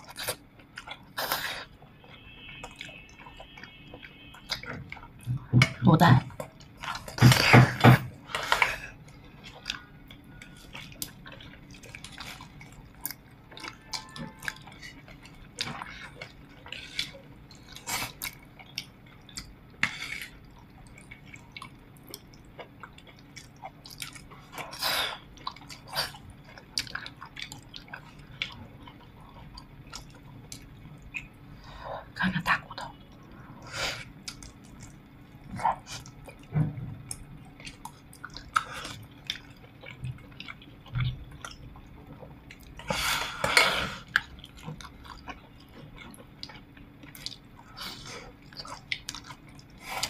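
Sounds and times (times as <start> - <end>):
people chewing wet mouth noises: 0.0 - 5.6, 6.3 - 31.8, 32.6 - 50.0.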